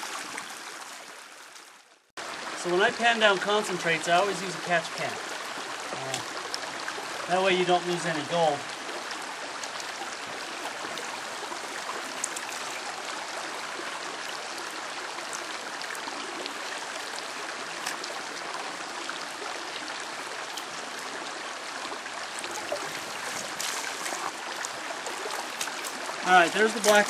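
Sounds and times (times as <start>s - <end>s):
creek water flowing: 0.0s - 27.0s
water trickling and splashing: 0.0s - 27.0s.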